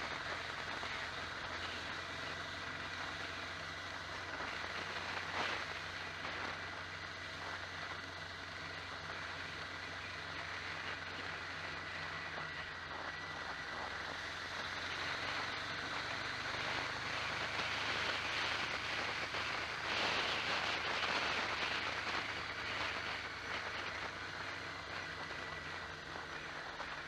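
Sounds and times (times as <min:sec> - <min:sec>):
vehicle engine drone: 0:00.0 - 0:27.0
wind and road noise: 0:00.0 - 0:27.0.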